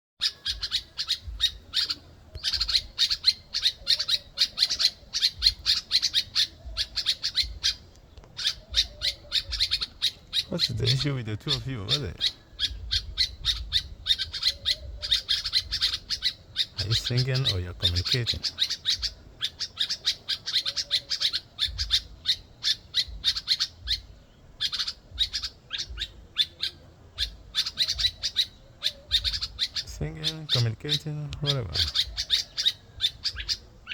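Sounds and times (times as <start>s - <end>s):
birds giving short high calls: 0.2s - 33.9s.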